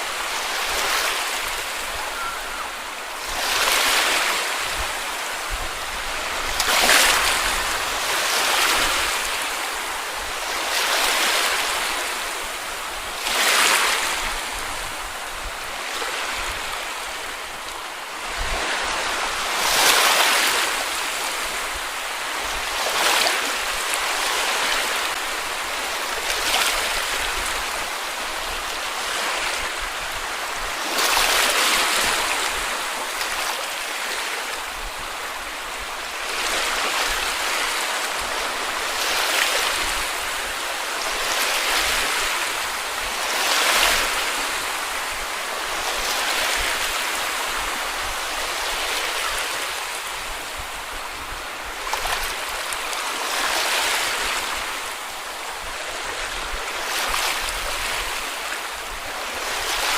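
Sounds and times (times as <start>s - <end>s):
sea waves washing on beach: 0.0s - 59.9s.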